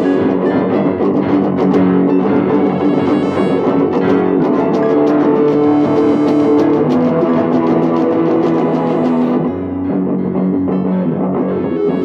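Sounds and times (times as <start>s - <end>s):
bass: 0.0s - 12.0s
guitar chord progression: 0.0s - 12.0s.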